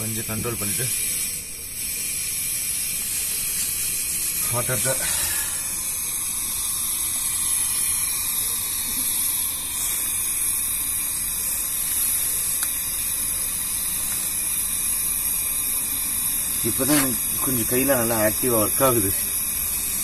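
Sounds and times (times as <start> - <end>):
camping stove burner hissing: 0.0 - 20.0.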